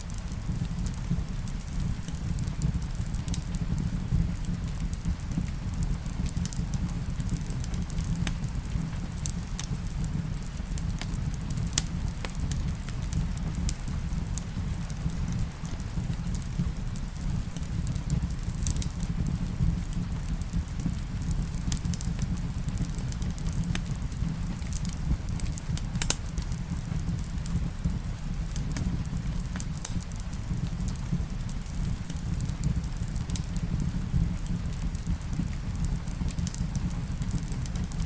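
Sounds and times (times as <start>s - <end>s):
rain hiss: 0.0s - 38.0s
sharp pops of fire: 0.0s - 38.0s
wood fire crackling: 0.0s - 38.0s.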